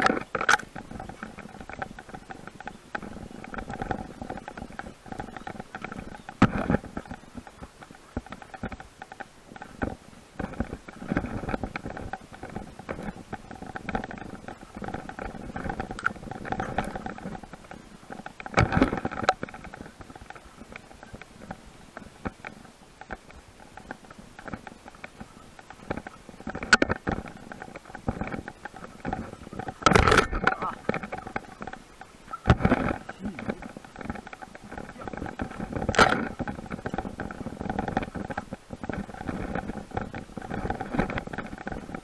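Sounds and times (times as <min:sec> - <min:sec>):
bicycle clicks: 0:00.0 - 0:42.0
bicycle rattling on bumpy trail: 0:00.0 - 0:42.0.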